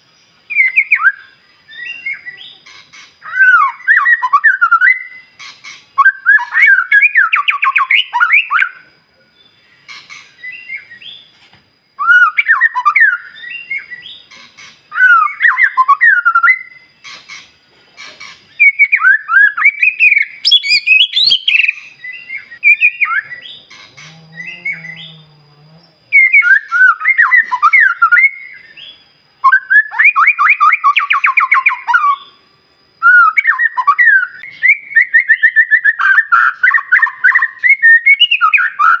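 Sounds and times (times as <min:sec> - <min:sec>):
bird singing whistled phrases: 0:00.5 - 0:11.3, 0:12.0 - 0:17.0, 0:18.5 - 0:23.8, 0:26.1 - 0:32.4, 0:33.0 - 0:39.0.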